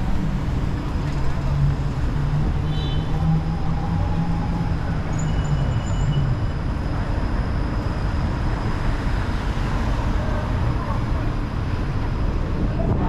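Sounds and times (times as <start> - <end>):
passing vehicles rumbling: 0.0 - 13.0.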